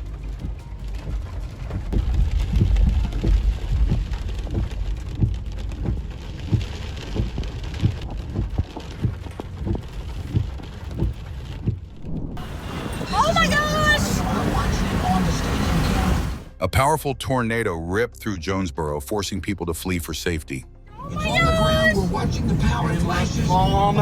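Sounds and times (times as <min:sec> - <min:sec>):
rain and wind rumble: 0:00.0 - 0:16.5, 0:21.0 - 0:24.0.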